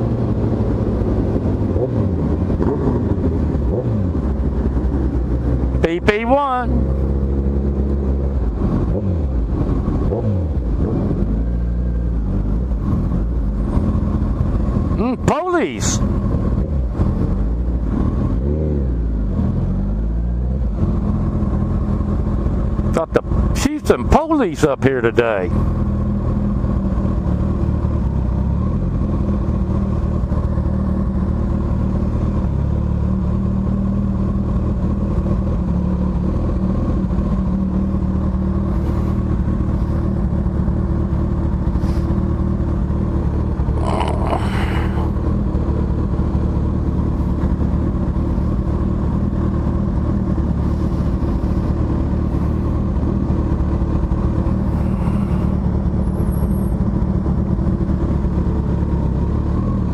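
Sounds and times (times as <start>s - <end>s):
motorcycle engine at low revs: 0.0s - 59.9s.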